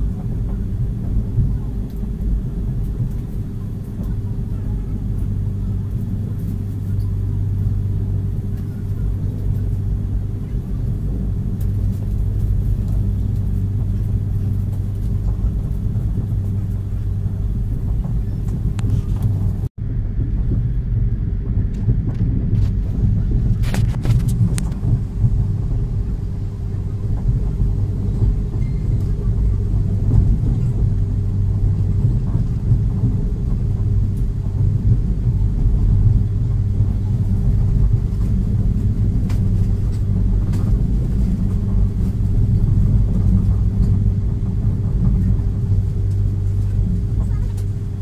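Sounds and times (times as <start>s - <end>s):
constant hum: 0.0s - 48.0s
train coach rumbling on track: 0.0s - 48.0s.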